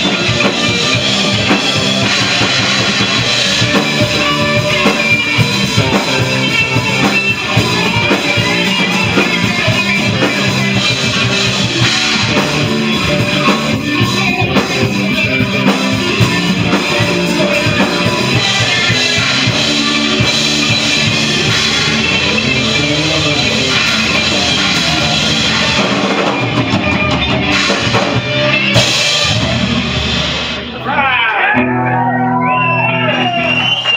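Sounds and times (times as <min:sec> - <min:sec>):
drum kit: 0:00.0 - 0:33.9
electric bass: 0:00.0 - 0:33.9
electric guitar: 0:00.0 - 0:33.9.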